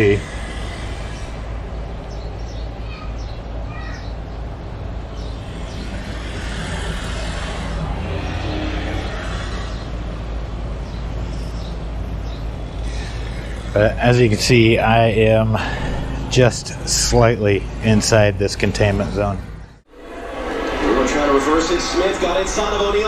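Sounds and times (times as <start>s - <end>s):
distant traffic hum: 0.0s - 23.0s.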